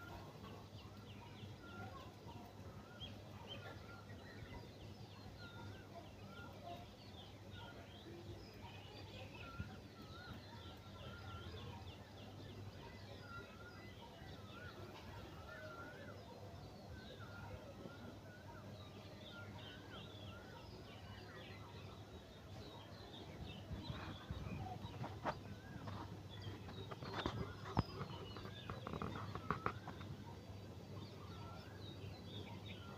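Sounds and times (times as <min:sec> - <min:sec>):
birds chirping and twittering: 0:00.0 - 0:32.9.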